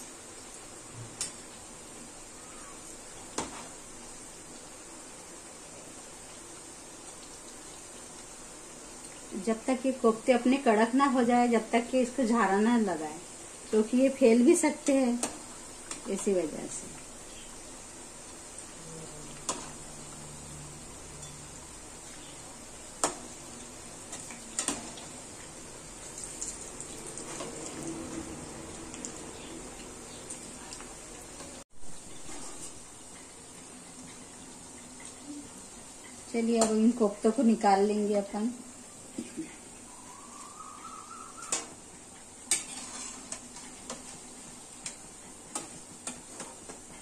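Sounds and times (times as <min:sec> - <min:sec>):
food deep-frying in hot oil: 0:00.0 - 0:47.0.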